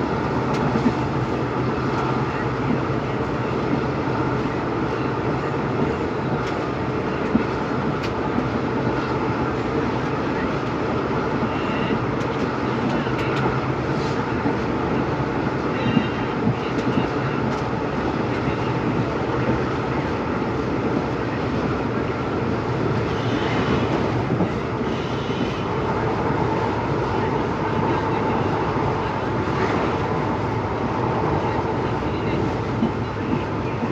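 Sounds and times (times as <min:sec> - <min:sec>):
train engine rumble: 0:00.0 - 0:33.9.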